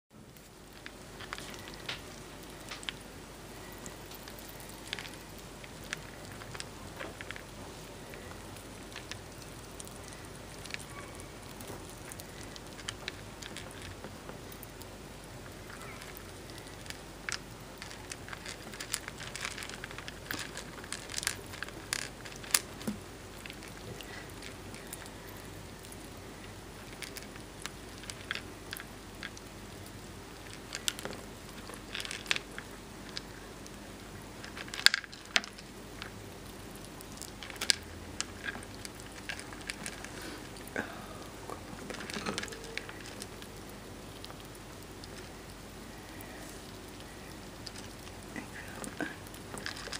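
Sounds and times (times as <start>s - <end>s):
rats chewing and crunching: 0.1s - 49.9s
nosing among pebbles: 0.2s - 49.9s.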